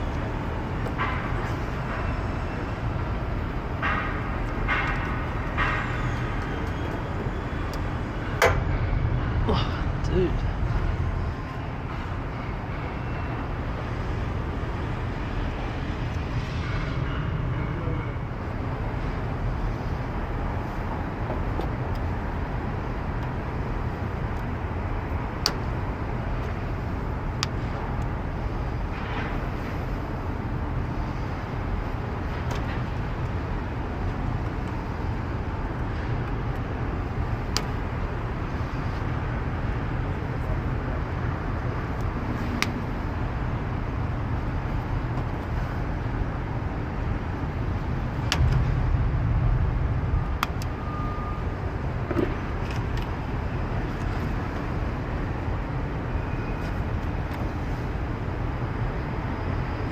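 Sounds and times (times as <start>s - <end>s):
low rumble of city noise: 0.0s - 59.9s.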